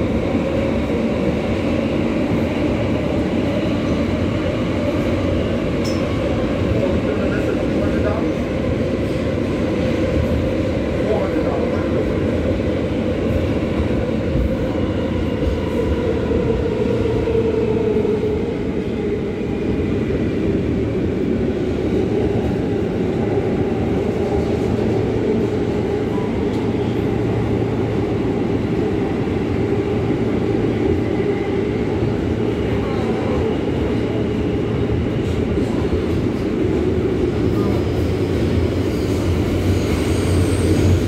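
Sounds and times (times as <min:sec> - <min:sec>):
subway wheels rumbling on rails: 0:00.0 - 0:41.0.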